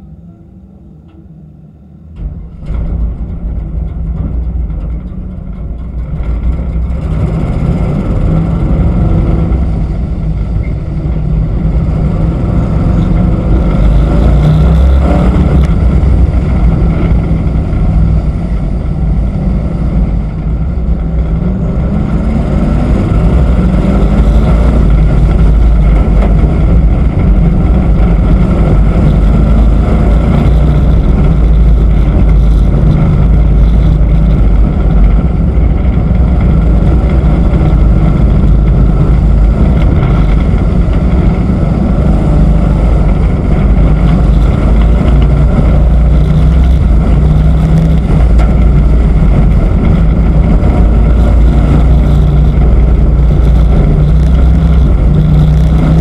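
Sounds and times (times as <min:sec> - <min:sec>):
race truck engine under throttle: 0:00.0 - 0:56.0.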